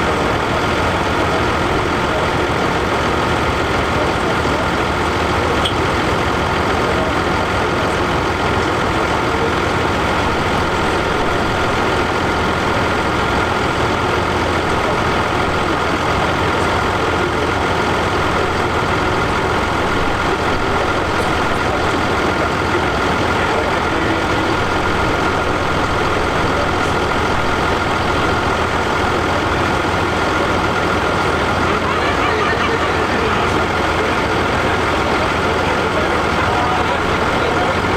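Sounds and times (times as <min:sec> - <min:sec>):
constant high whine: 0:00.0 - 0:37.9
tractor engine running: 0:00.0 - 0:37.9.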